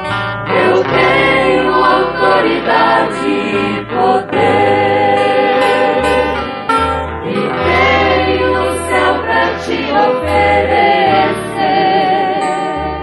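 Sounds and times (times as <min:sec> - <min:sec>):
held bass notes: 0:00.0 - 0:13.0
voices singing a hymn: 0:00.4 - 0:13.0.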